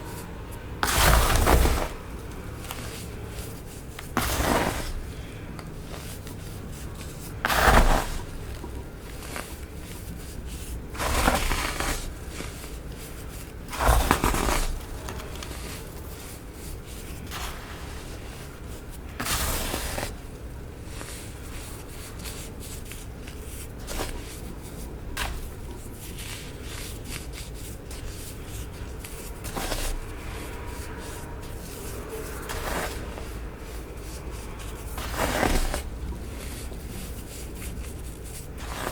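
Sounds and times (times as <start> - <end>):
baking soda crunching: 0.0 - 38.9.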